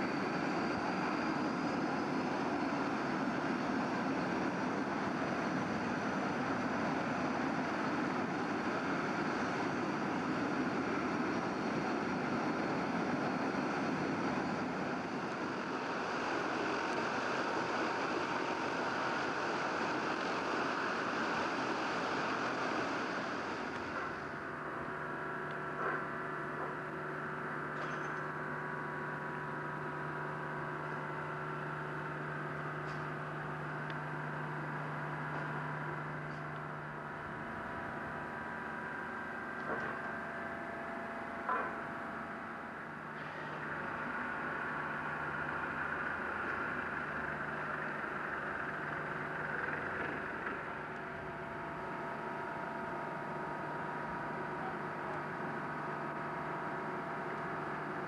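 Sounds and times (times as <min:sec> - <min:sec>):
hovercraft turbines whining: 0:00.0 - 0:58.0.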